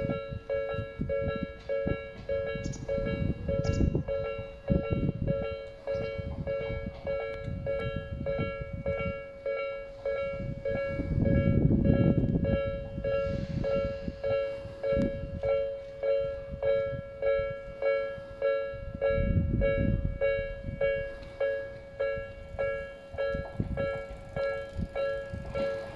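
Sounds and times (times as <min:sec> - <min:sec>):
crossing warning bell ringing: 0:00.0 - 0:25.9
low train rumble: 0:00.0 - 0:25.9.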